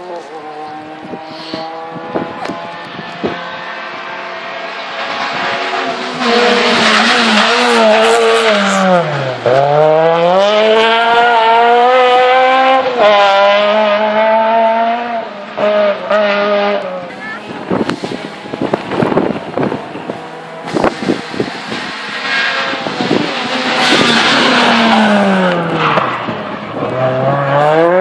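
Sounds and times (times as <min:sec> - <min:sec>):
rally car engine revving past: 0:00.0 - 0:17.1, 0:17.7 - 0:28.0.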